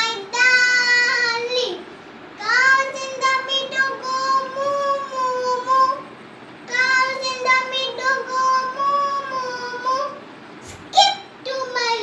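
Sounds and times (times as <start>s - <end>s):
child singing: 0.0s - 6.1s, 6.7s - 10.2s, 10.9s - 12.0s.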